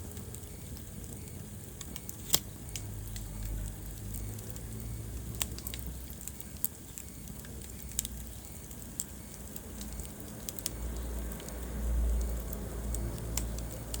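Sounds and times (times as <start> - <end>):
low rumble of burning: 0.0 - 14.0
wood fire pops and snaps: 0.0 - 14.0.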